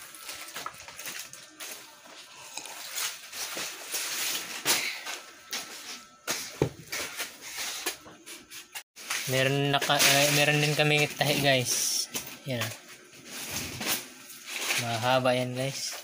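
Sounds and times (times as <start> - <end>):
rustling and shuffling: 3.0 - 16.0.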